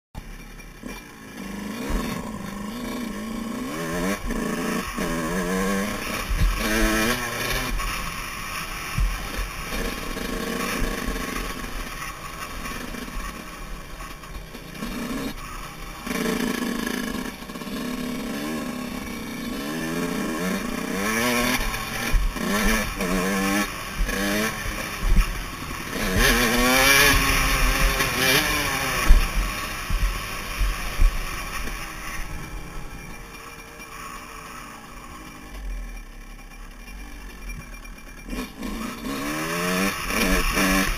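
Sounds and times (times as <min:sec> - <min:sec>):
two-stroke motorcycle engine revving: 0:00.2 - 0:40.9.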